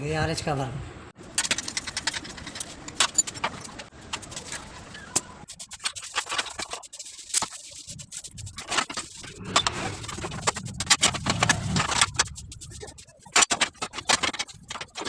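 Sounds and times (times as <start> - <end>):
spanner clicking and scraping on metal: 1.3 - 15.0.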